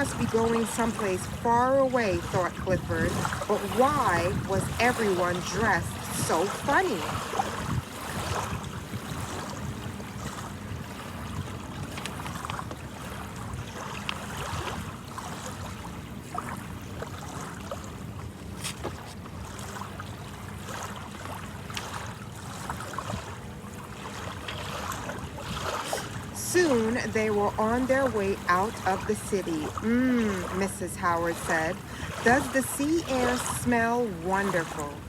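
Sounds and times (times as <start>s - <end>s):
surf: 0.0s - 35.0s
wind buffeting microphone: 0.0s - 35.0s.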